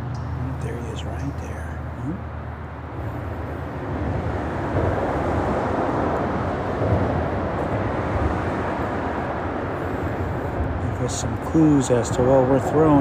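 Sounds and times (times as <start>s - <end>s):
freeway traffic rumble: 0.0s - 13.0s.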